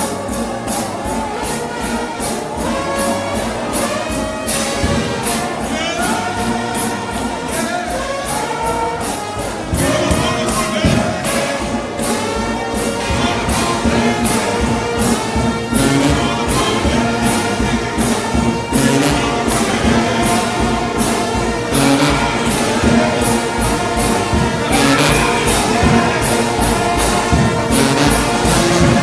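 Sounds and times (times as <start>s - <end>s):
brass band with sliding trombones: 0.0s - 29.0s
cymbal and drum beats: 0.0s - 29.0s.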